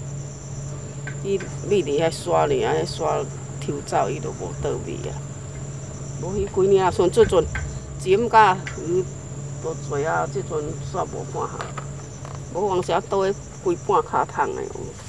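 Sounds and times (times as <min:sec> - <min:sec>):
constant low hum: 0:00.0 - 0:15.0
crickets chirring: 0:00.0 - 0:15.0.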